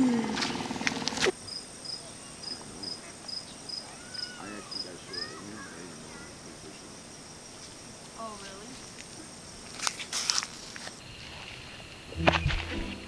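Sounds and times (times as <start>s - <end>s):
crickets chirping: 0.0s - 12.5s
high insect trill: 0.3s - 12.2s.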